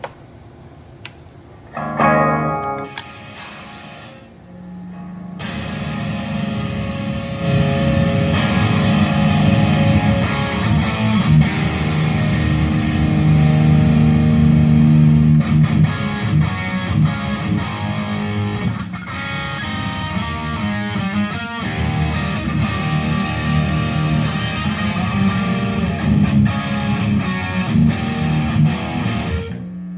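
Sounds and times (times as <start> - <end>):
distorted electric guitar: 1.7 - 29.7.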